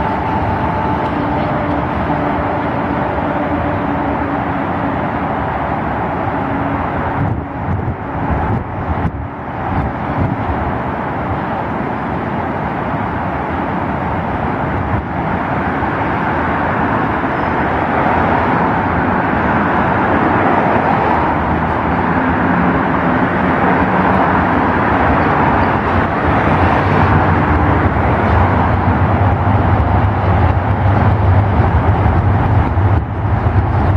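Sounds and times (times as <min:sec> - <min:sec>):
road traffic noise: 0:00.0 - 0:33.9
tram passing on track: 0:00.0 - 0:33.9.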